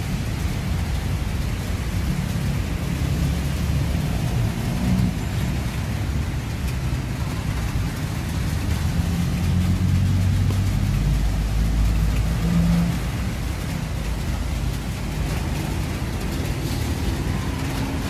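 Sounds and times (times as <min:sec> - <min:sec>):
faint rain: 0:00.0 - 0:18.0
vehicle engine running: 0:00.1 - 0:18.0.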